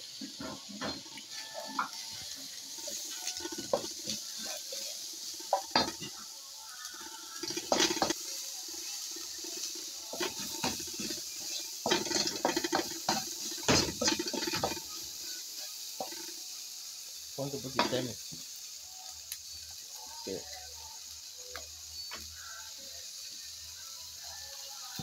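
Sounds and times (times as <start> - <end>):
vegetables sizzling: 0.0 - 25.0.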